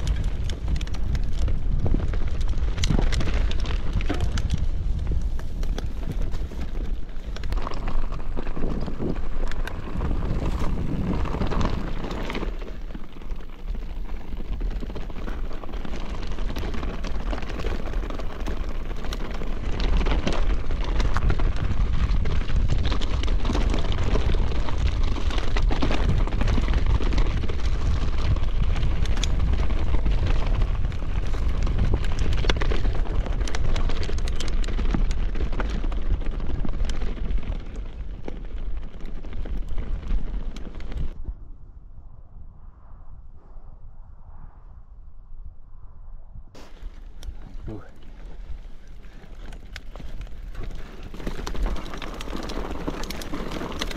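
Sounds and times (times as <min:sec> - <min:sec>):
bike tyres crunching over stones: 0:00.0 - 0:41.2, 0:46.6 - 0:53.9
wind rumble on microphone: 0:00.0 - 0:53.9.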